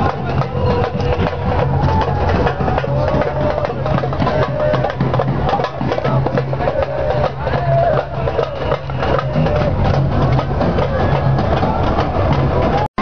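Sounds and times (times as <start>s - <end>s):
busy percussion: 0.0s - 13.0s.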